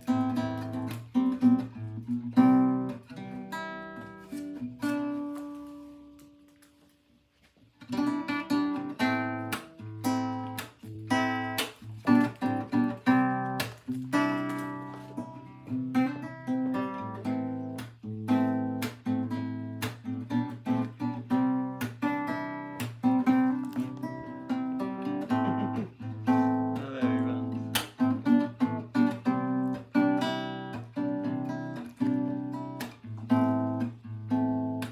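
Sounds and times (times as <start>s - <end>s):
acoustic guitar strumming: 0.0s - 6.4s, 7.8s - 34.9s.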